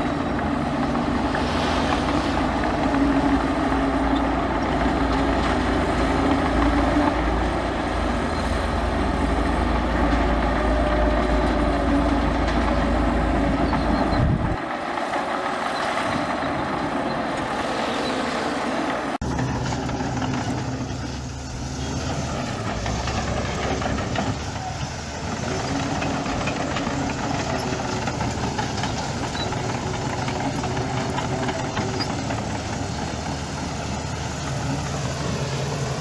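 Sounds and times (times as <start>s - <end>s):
deep diesel engine rumble: 0.0s - 36.0s
light mechanical engine noise: 0.0s - 36.0s.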